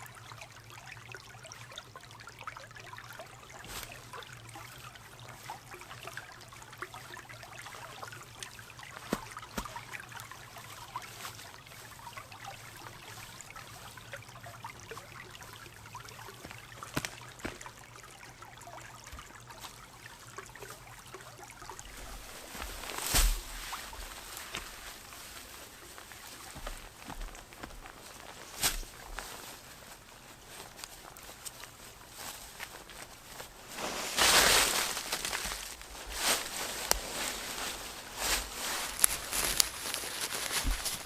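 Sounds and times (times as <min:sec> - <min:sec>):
water trickling: 0:00.0 - 0:41.0.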